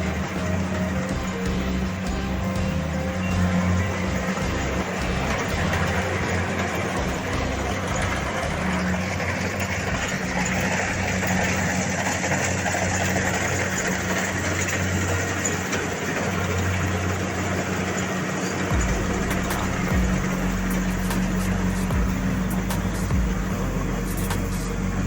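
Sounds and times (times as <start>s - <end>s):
combine harvester engine running: 0.0s - 25.0s.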